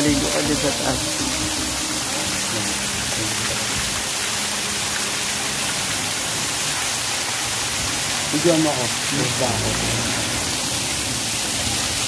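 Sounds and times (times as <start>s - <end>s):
waterfall splashing: 0.0s - 12.0s.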